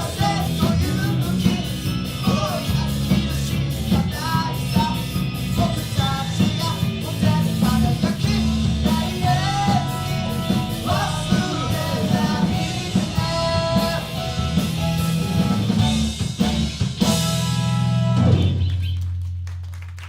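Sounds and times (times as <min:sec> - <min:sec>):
live rock band playing: 0:00.0 - 0:19.2.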